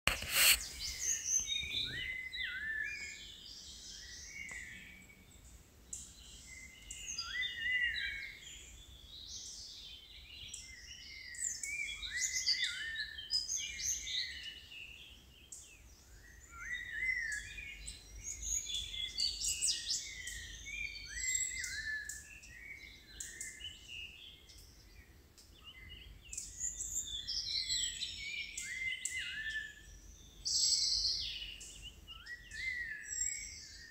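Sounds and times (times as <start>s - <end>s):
faint background noise: 0.1s - 33.9s
birds whistling and chirping: 0.2s - 5.2s, 6.0s - 33.9s.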